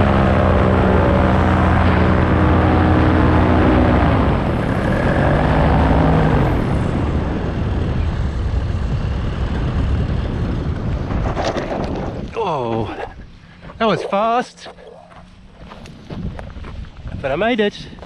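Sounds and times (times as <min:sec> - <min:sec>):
paramotor engine and propeller: 0:00.0 - 0:18.0
rush of wind: 0:00.0 - 0:18.0.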